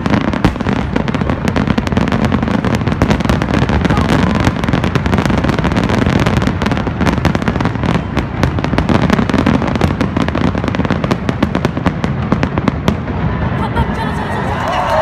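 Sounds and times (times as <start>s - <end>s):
fireworks bursts and crackles: 0.0s - 15.0s.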